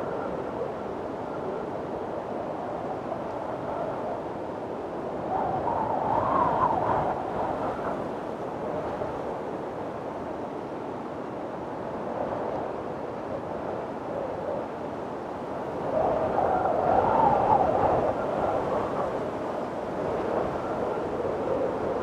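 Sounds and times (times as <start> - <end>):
strong wind blowing: 0.0 - 22.0.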